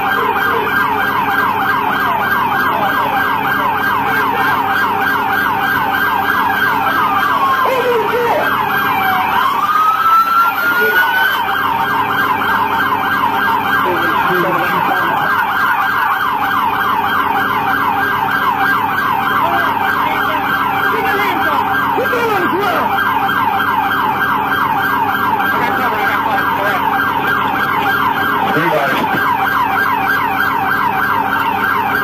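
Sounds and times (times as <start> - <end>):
police siren yelping: 0.0 - 32.0.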